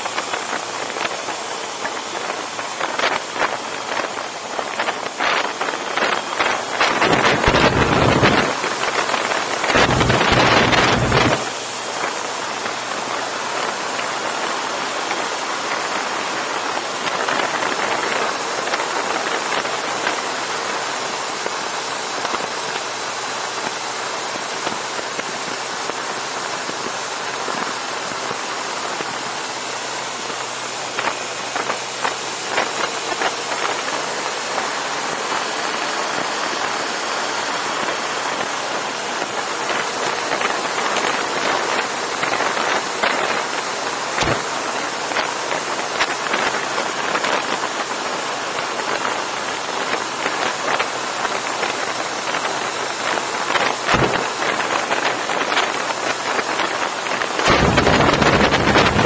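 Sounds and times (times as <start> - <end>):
faint motorcycle engine hum: 0.0 - 59.0
wind and road rush: 0.0 - 59.0.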